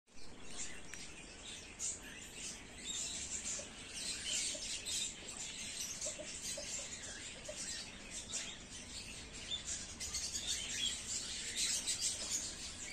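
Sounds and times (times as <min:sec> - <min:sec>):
birds chirping: 0:00.1 - 0:12.9.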